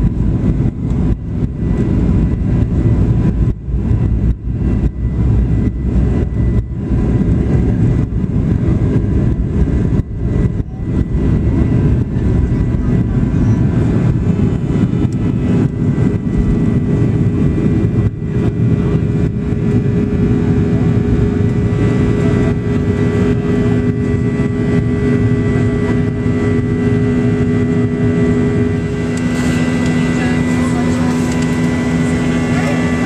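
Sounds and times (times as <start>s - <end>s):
jet engine noise in cabin: 0.0s - 33.0s
wheels rumbling on runway: 0.0s - 33.0s.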